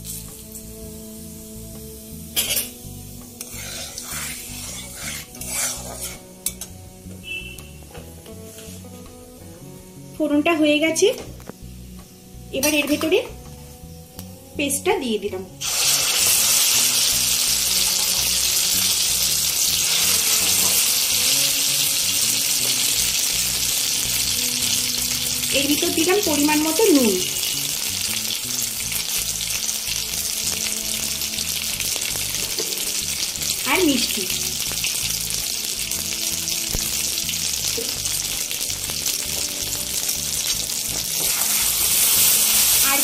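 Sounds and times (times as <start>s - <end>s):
paste sizzling in hot oil: 0.0s - 7.4s, 15.6s - 43.0s.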